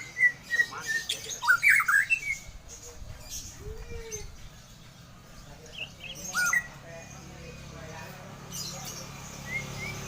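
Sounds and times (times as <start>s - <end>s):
caged birds chirping: 0.0s - 10.0s.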